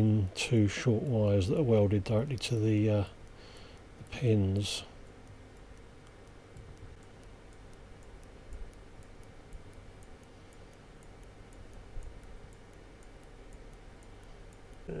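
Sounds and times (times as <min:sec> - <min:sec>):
fast high-pitched ticking: 0:00.0 - 0:15.0.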